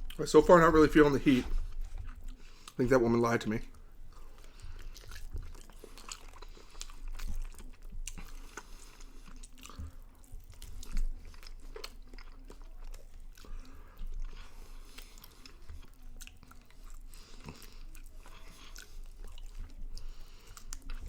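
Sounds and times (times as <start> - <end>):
person chewing chicken wings: 1.2 - 2.8, 3.6 - 21.0.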